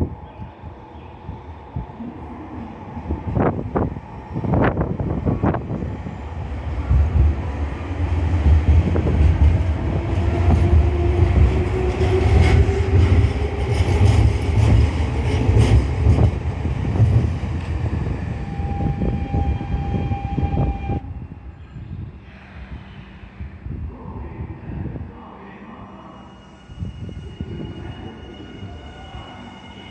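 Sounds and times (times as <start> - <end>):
electric train rumbling: 0.0 - 29.9.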